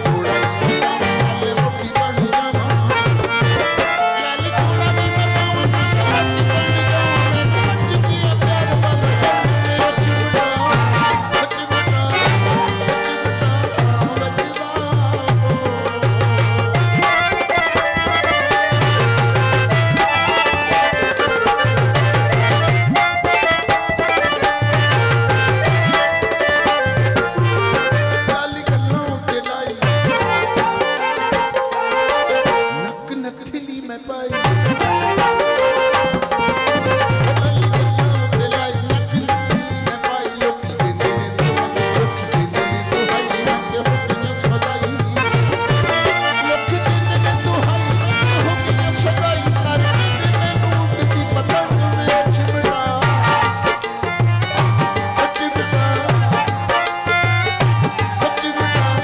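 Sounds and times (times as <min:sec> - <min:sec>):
dholak drumming: 0:00.0 - 0:59.0
sustained harmonium notes: 0:00.0 - 0:59.0.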